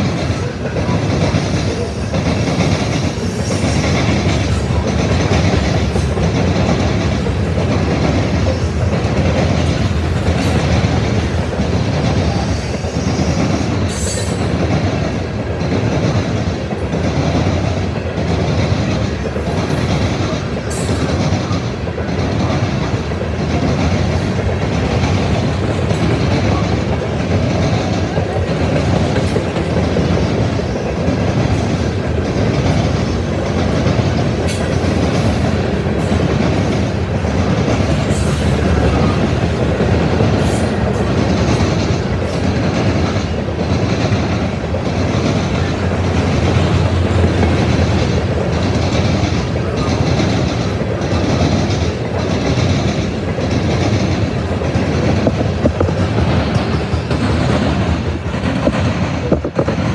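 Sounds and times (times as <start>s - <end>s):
freight train wheels rumbling: 0.0s - 59.9s
wheels clickety-clack on rail joints: 0.0s - 59.9s.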